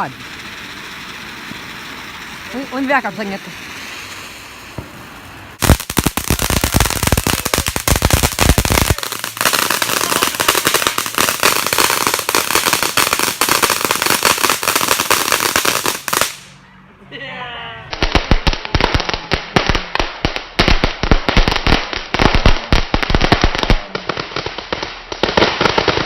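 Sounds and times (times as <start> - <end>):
firework bangs: 0.0 - 16.6, 17.9 - 26.0
firework crackling pops: 0.0 - 16.6, 17.9 - 26.0.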